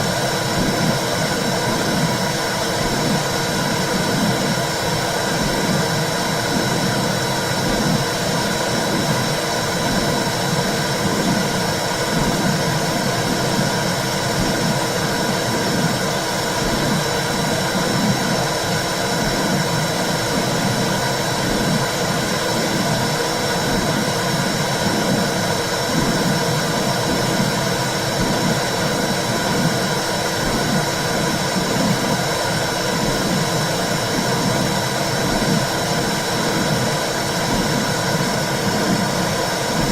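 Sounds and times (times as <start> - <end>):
whooshing hiss with rhythmic pulsing: 0.0 - 39.9.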